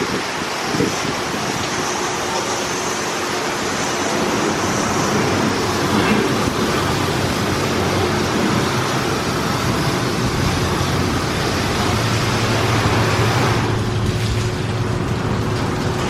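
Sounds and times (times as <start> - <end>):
car wash machinery noise: 0.0 - 16.0
water spray rushing: 0.0 - 16.0.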